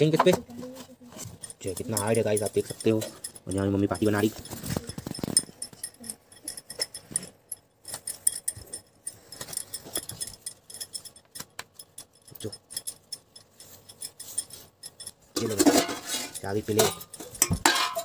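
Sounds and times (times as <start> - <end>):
light clinks and taps: 0.0 - 18.0.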